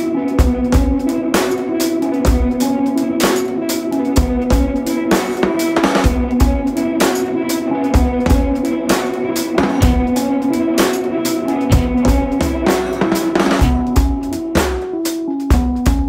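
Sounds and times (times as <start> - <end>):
music with drum beat: 0.0 - 16.0.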